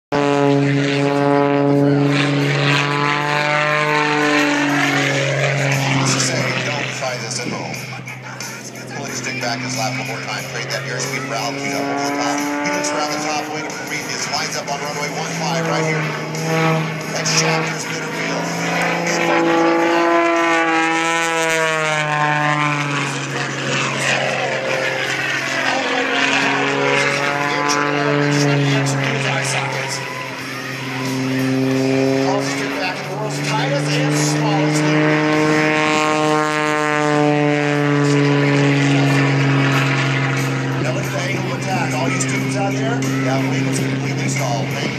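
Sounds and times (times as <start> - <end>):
propeller airplane engine droning: 0.1 - 44.9.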